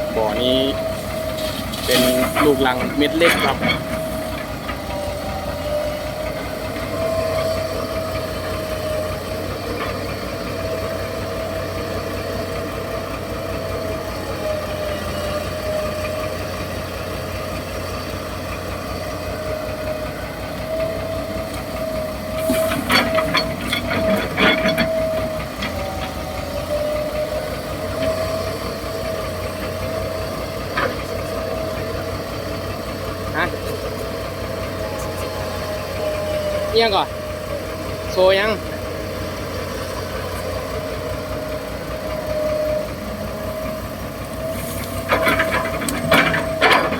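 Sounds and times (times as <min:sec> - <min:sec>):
excavator engine whining: 0:00.0 - 0:46.9.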